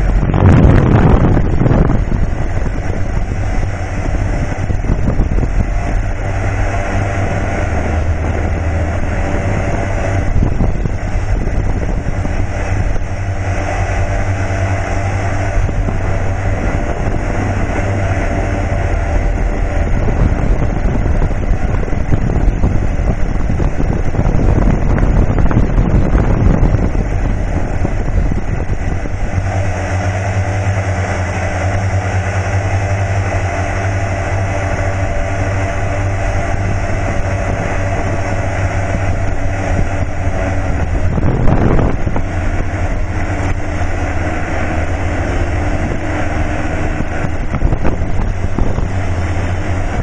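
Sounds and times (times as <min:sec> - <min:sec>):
drone motor humming: 0:00.0 - 0:50.0
wind on microphone: 0:00.0 - 0:50.0.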